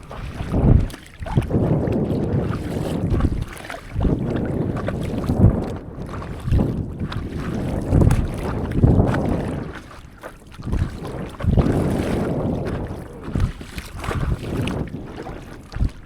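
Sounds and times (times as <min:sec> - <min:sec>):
sea water sloshing: 0:00.0 - 0:16.0
wind buffeting microphone: 0:00.0 - 0:16.0.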